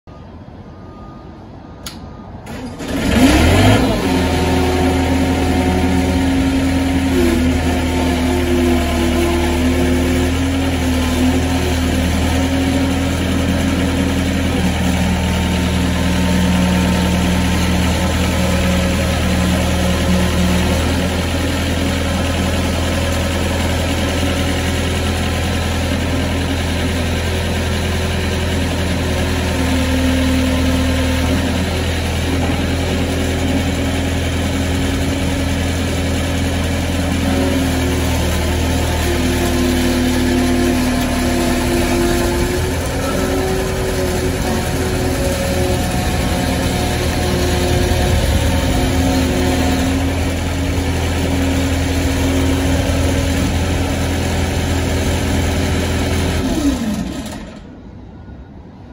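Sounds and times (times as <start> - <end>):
diesel engine running: 0.1 - 58.5.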